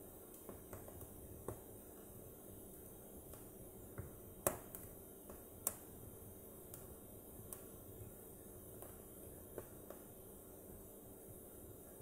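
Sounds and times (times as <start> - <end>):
faint steady hiss: 0.0 - 12.0
logs crackling in fireplace: 0.0 - 12.0.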